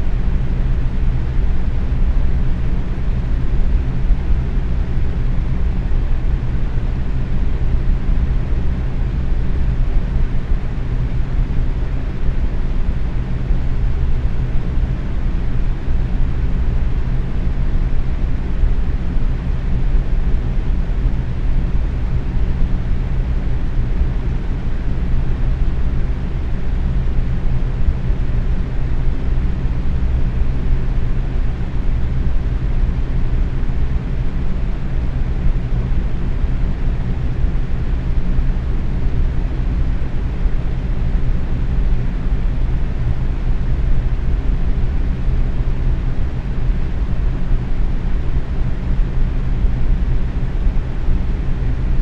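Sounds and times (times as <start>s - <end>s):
box fan running: 0.0s - 52.0s.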